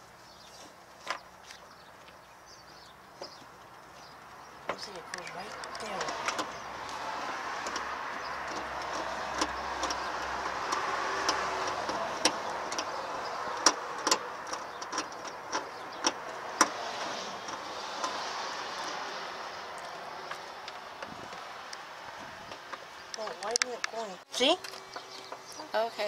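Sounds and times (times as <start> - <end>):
car passing: 3.2 - 26.0.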